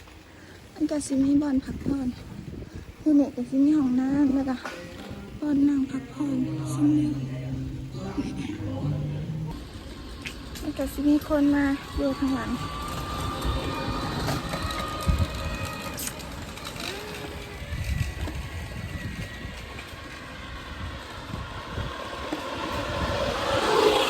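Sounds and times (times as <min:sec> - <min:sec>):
wind buffeting microphone: 0:00.7 - 0:24.0.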